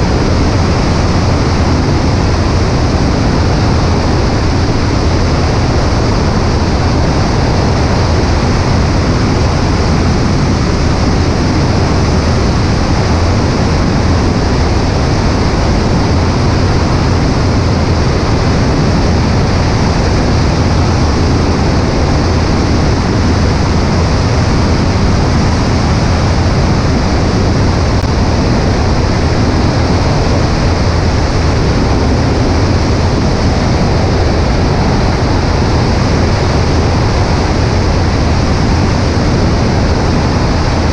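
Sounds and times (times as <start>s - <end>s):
aircraft engine rumble: 0.0s - 40.9s
airflow rushing: 0.0s - 40.9s.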